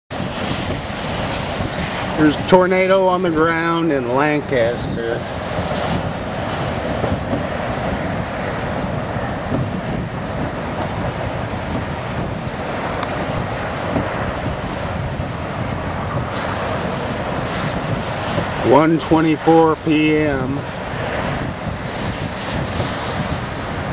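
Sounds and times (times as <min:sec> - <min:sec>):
strong wind buffeting microphone: 0:00.1 - 0:23.9.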